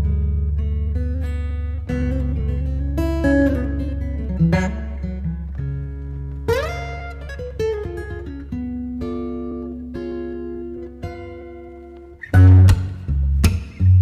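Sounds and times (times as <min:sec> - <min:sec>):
plucked acoustic guitar: 0:00.0 - 0:14.0.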